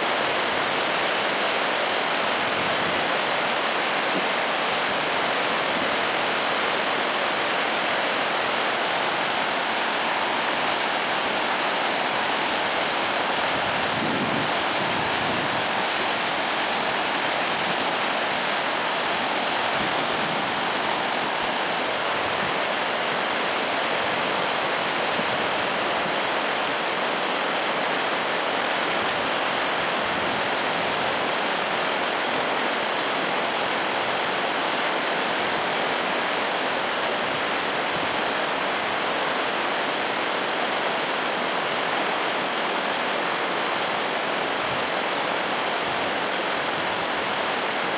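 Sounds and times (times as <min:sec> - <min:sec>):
floodwater rushing: 0:00.0 - 0:47.9.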